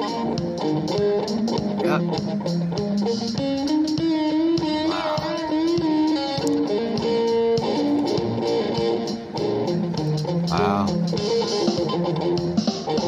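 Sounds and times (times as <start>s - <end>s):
electric guitar music: 0.0s - 13.0s
steady beat: 0.0s - 13.0s.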